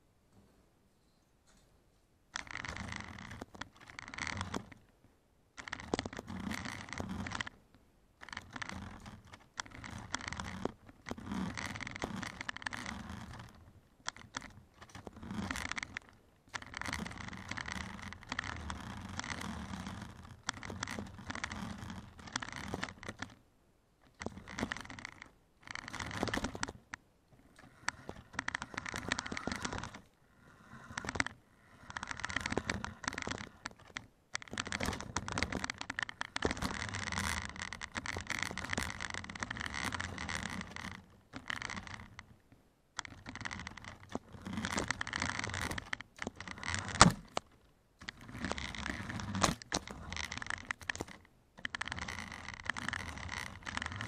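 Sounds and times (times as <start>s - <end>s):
toy car motor whirring: 2.4s - 4.8s, 5.6s - 7.6s, 8.2s - 23.4s, 24.0s - 26.8s, 27.4s - 42.3s, 43.0s - 54.0s.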